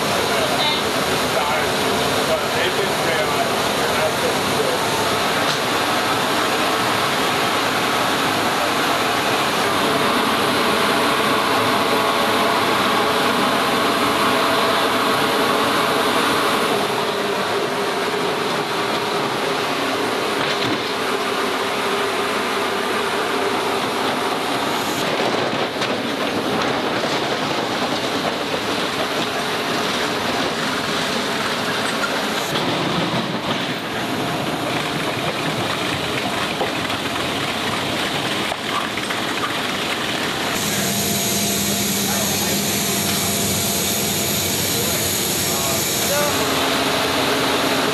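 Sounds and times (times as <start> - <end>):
jet engine and airflow noise: 0.0 - 47.9.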